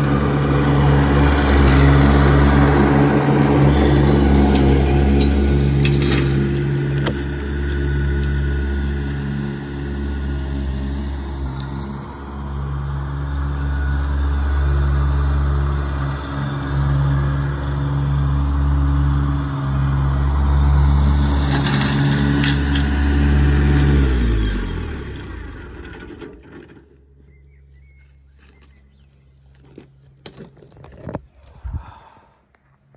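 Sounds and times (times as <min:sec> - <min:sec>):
tractor engine running down: 0:00.0 - 0:30.3.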